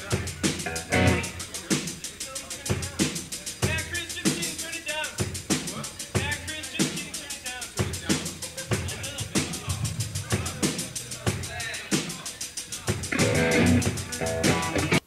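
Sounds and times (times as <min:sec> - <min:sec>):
drum kit fast beat: 0:00.0 - 0:15.0
punk rock band playing live: 0:00.0 - 0:15.0.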